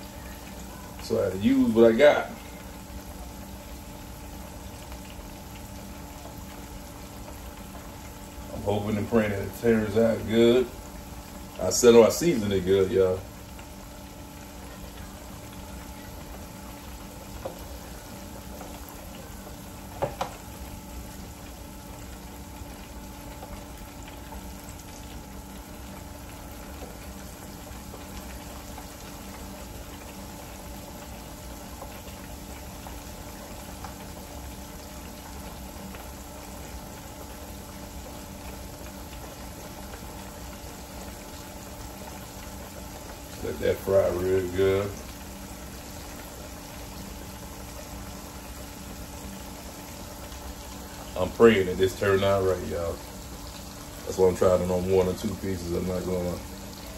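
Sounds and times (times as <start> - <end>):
deep-frying bubbling sizzle: 0.0 - 56.9.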